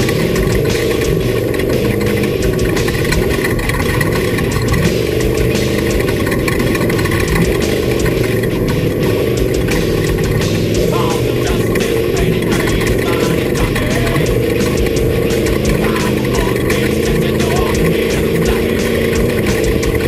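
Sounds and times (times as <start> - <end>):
race vehicle engine running hard: 0.0 - 20.0
sharp clicks and knocks: 0.0 - 20.0.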